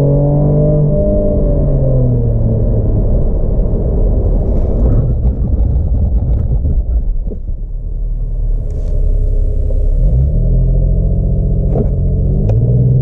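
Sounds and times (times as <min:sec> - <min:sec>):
car engine hum: 0:00.0 - 0:13.0
road and tyre rumble: 0:00.0 - 0:13.0.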